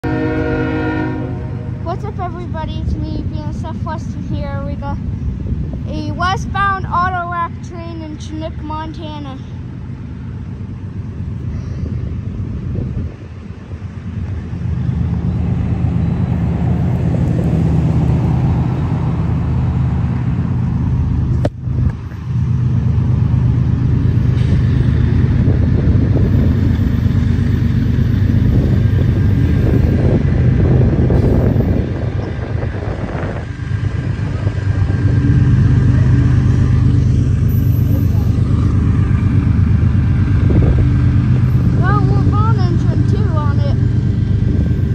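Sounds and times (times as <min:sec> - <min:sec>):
diesel locomotive engine drone: 0:00.0 - 0:44.9.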